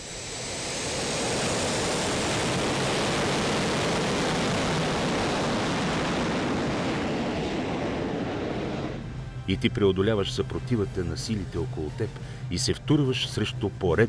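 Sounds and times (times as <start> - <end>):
high turbine whine: 0.0 - 14.0
jet engines roaring: 0.0 - 14.0.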